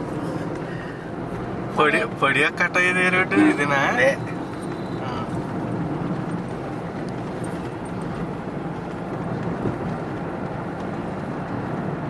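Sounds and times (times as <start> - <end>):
car driving on road: 0.0 - 12.0.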